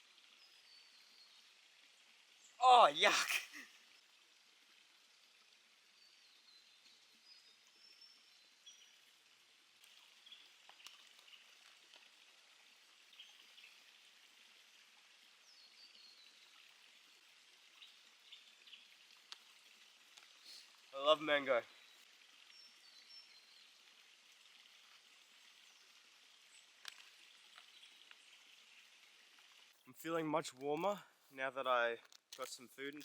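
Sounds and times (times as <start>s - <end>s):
soft hiss: 0.0s - 33.0s.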